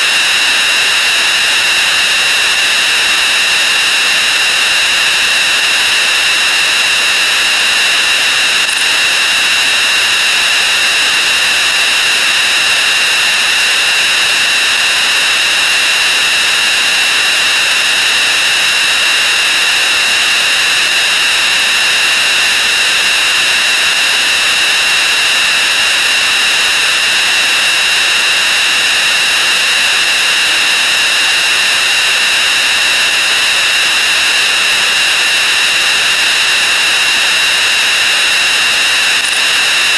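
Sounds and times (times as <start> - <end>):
high ringing tone: 0.0 - 39.9.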